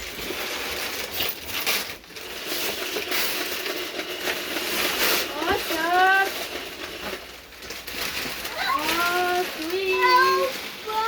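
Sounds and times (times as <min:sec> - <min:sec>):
wrapping paper tearing and crinkling: 0:00.0 - 0:11.0.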